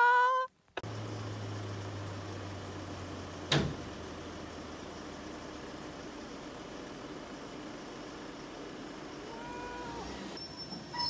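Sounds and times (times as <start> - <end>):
heavy diesel engine drone: 0.8 - 10.4.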